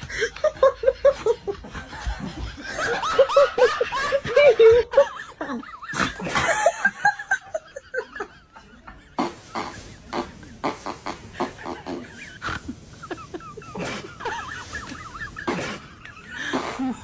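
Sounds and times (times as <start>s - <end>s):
people laughing: 0.0s - 17.0s.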